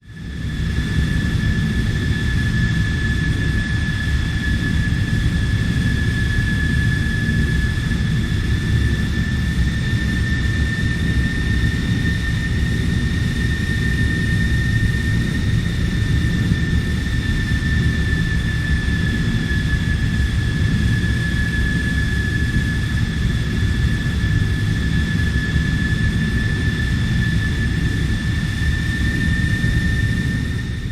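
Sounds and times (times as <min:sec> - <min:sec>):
jet engine rumble and whine: 0:00.0 - 0:30.9.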